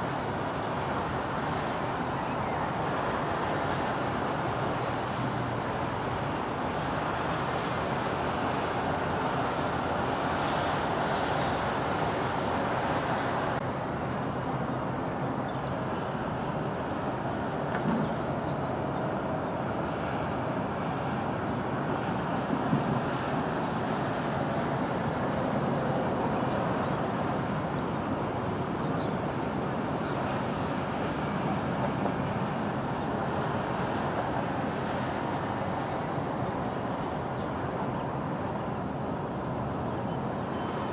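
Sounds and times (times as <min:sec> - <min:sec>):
road traffic passing: 0:00.0 - 0:40.9.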